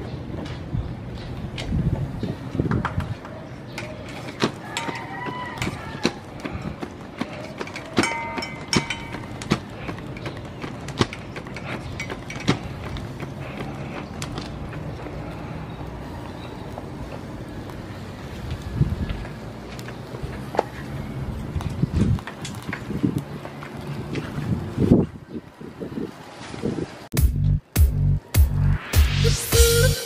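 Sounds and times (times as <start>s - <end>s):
paper fan fanning a grill: 1.4s - 27.0s.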